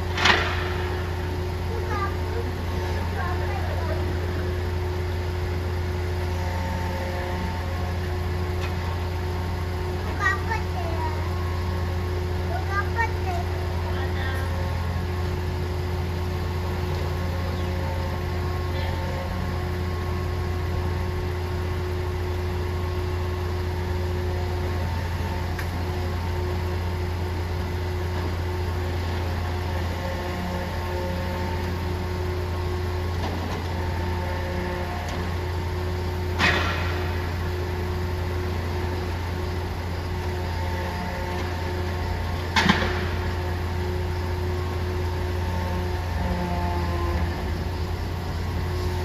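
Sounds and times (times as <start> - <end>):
truck engine humming: 0.0 - 49.0.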